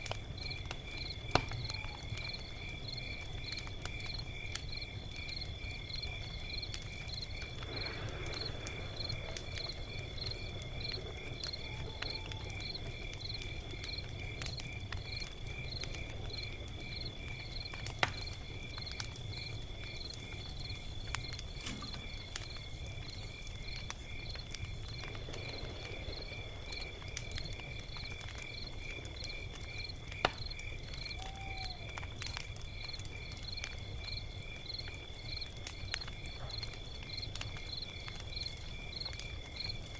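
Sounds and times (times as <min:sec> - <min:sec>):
insects chirping: 0:00.0 - 0:39.9
log fire crackling and popping: 0:00.0 - 0:39.9.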